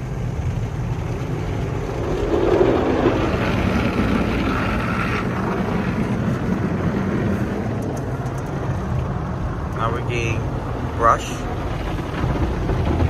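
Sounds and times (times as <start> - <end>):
car wash equipment rumble: 0.0 - 13.0.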